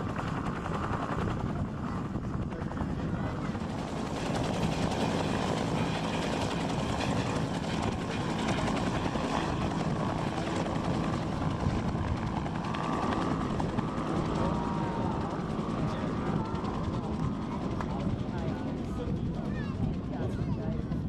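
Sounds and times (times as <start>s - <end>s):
helicopter running: 0.0s - 21.0s.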